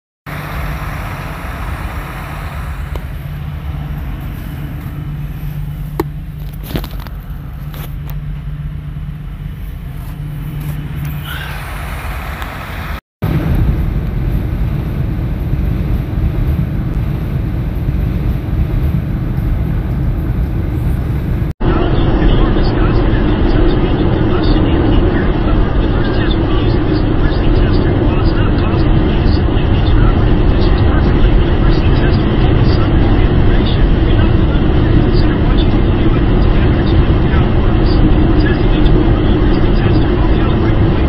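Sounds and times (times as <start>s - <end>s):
vehicle engine and road rumble: 0.3s - 41.0s.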